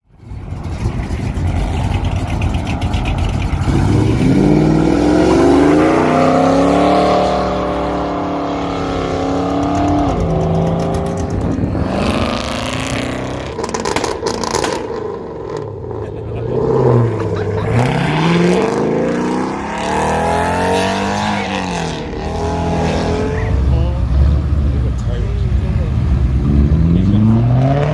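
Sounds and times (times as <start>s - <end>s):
car engine accelerating and revving: 0.2s - 27.9s.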